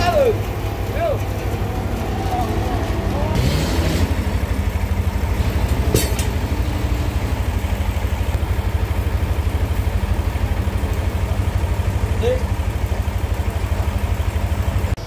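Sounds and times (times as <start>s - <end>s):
sawmill engine throbbing: 0.0s - 15.0s.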